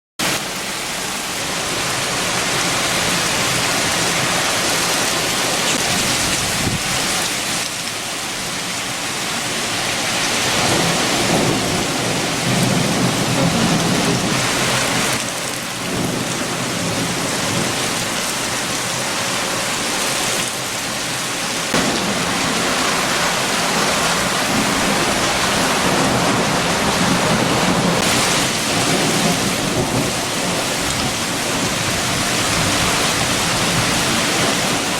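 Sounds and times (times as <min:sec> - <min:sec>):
heavy rain: 0:00.2 - 0:34.9
strong wind: 0:00.4 - 0:07.7, 0:09.0 - 0:34.9.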